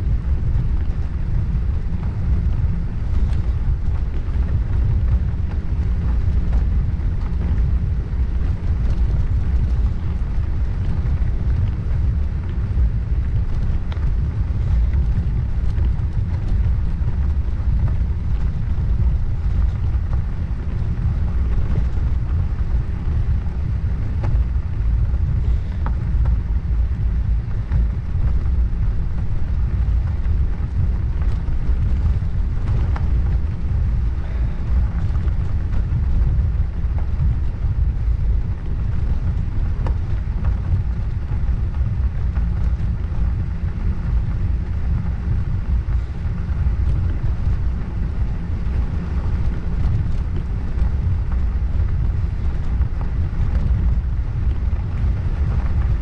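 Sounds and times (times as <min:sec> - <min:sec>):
bicycle tyre noise on road: 0:00.0 - 0:56.0
wind rumble on microphone: 0:00.0 - 0:56.0.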